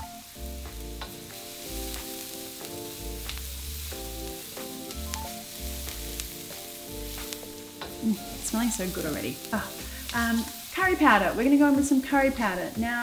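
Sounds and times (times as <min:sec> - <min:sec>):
background music with chords: 0:00.0 - 0:13.0
food sizzling in hot oil: 0:00.0 - 0:13.0.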